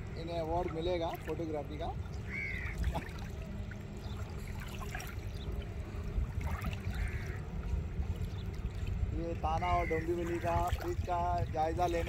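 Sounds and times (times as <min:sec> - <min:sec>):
small waves lapping: 0:00.0 - 0:12.0.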